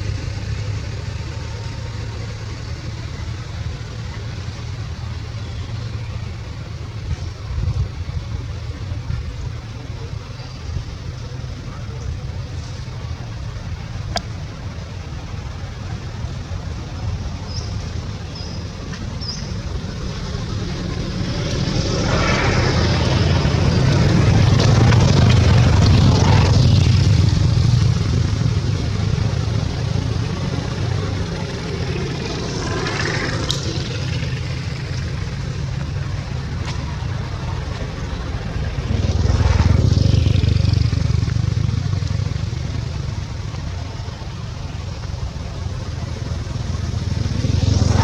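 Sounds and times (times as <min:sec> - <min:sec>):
traffic engine rumble: 0:00.0 - 0:48.0.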